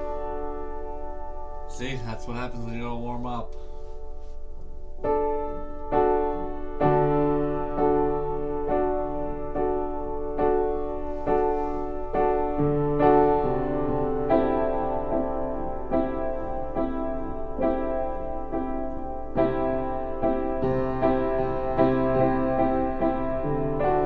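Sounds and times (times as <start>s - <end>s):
keyboard chords played slowly: 0.0s - 24.0s.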